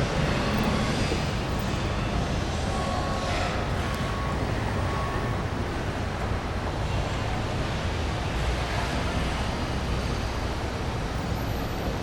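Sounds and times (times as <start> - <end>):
outdoor rushing rumble: 0.0 - 12.0.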